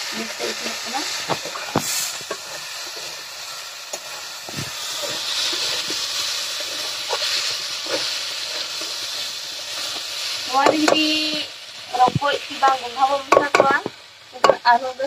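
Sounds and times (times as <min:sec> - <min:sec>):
vegetables sizzling in a wok: 0:00.0 - 0:15.0
spatula scraping and knocking pan: 0:00.4 - 0:03.2, 0:03.9 - 0:11.4, 0:12.0 - 0:14.8.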